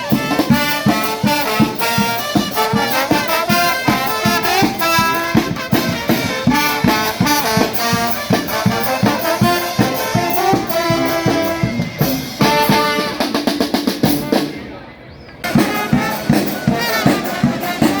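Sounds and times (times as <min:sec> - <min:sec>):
brass band playing: 0:00.0 - 0:14.8, 0:15.4 - 0:18.0.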